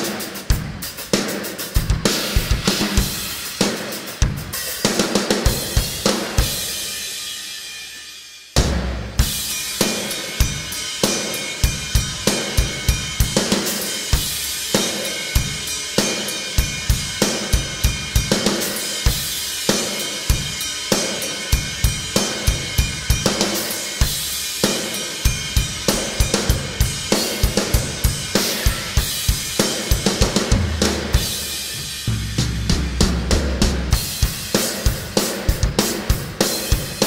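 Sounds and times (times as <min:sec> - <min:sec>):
rock drum beat: 0:00.0 - 0:37.0.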